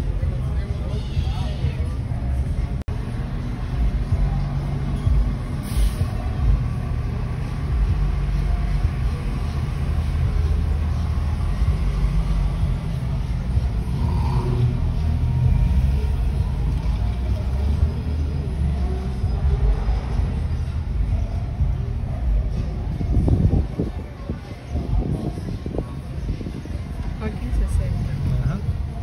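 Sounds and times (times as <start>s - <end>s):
car engine rumble: 0.0s - 29.0s
road noise inside car: 0.0s - 29.0s.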